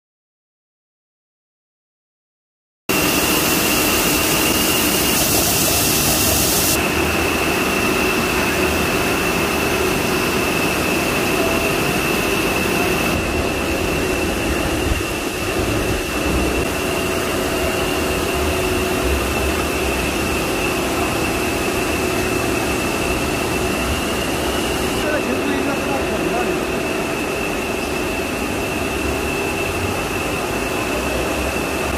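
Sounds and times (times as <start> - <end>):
machinery whine and hum: 2.9 - 31.9.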